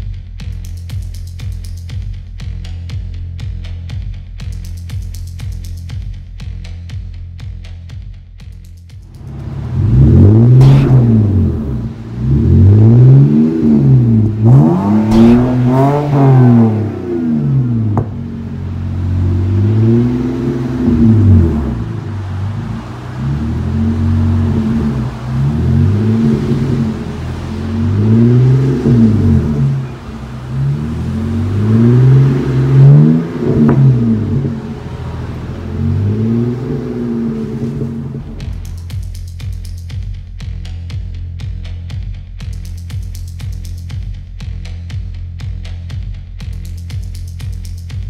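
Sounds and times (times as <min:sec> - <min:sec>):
car engine revving: 0:09.0 - 0:48.0.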